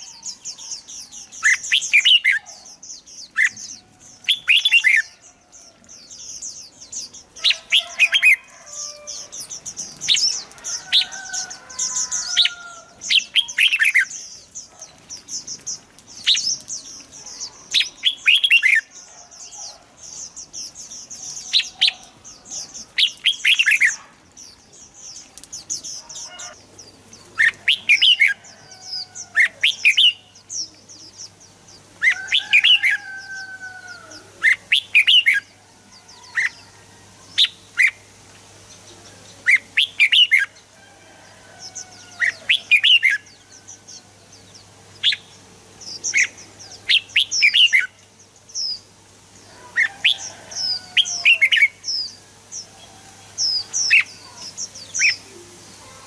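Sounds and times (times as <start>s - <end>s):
birds singing warbling phrases: 0.0s - 40.7s, 41.7s - 52.8s, 53.4s - 56.0s.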